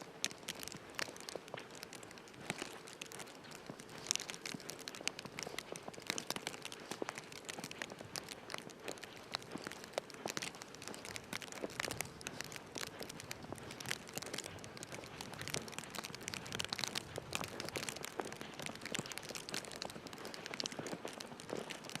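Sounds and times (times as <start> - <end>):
crackling and crinkling: 0.0 - 22.0.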